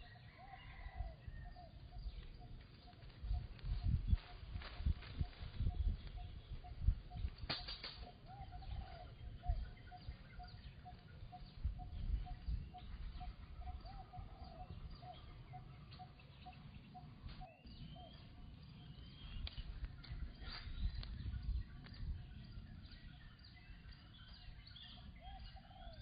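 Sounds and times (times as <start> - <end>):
bird chirps: 0.0 - 26.0.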